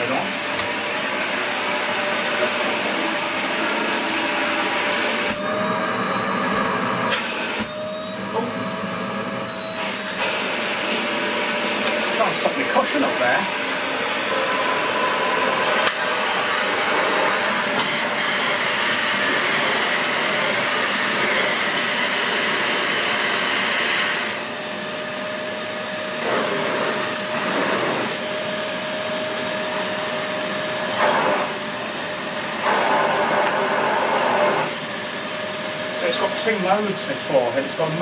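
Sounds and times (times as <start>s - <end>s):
vacuum cleaner running on carpet: 0.0s - 38.0s.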